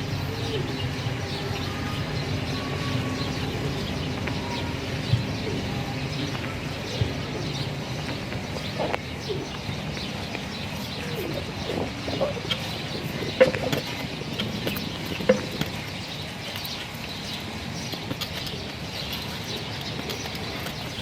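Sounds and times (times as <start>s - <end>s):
birds chirping and calling: 0.0s - 21.0s.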